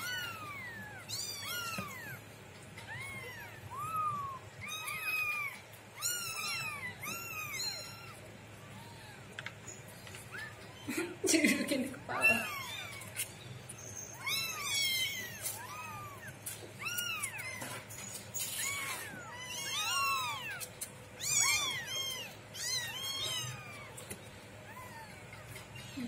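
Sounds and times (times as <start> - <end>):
kittens mewing: 0.0 - 9.6, 10.2 - 26.0.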